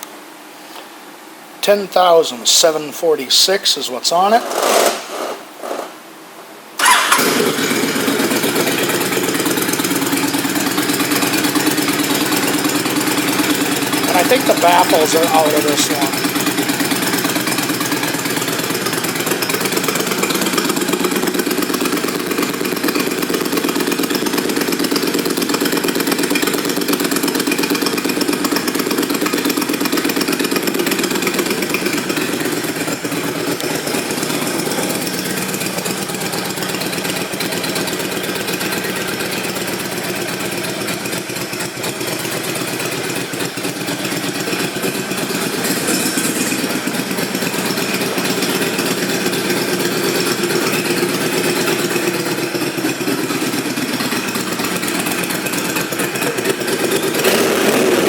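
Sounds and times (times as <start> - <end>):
motorcycle engine idling: 6.8 - 58.0.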